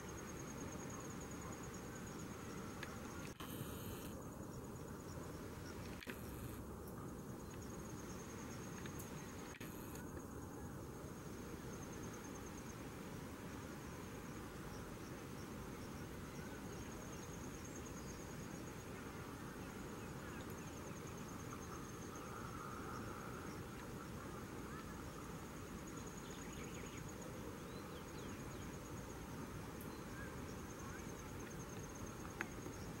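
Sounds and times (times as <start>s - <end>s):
cricket trilling: 0.0s - 33.0s
forest ambience hiss: 0.0s - 33.0s.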